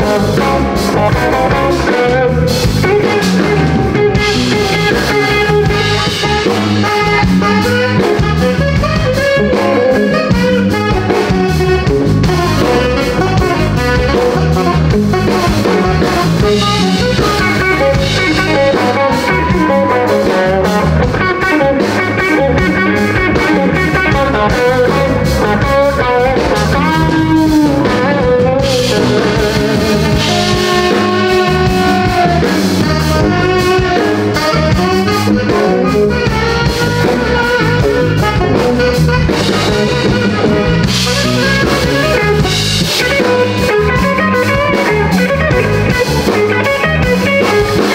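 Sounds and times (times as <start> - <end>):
live blues band playing: 0.0 - 47.9.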